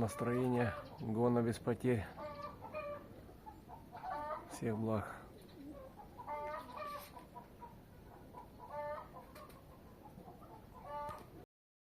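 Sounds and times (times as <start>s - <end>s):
hen clucking: 0.0s - 11.4s.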